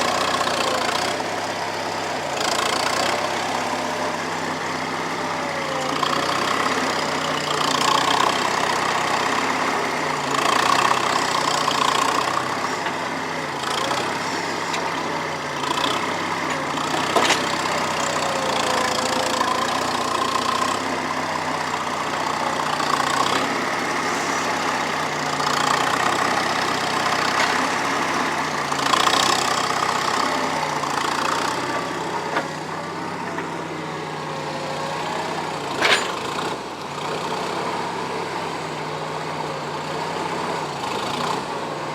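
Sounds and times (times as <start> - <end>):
skid steer engine changing speed: 0.0 - 41.9.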